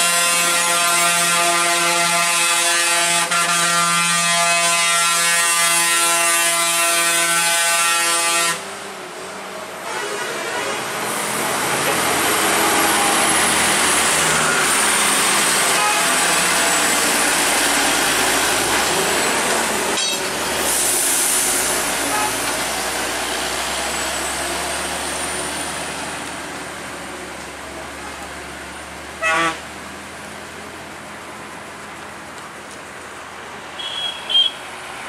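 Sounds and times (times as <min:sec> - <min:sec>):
diesel lorry driving past: 0:05.0 - 0:35.0.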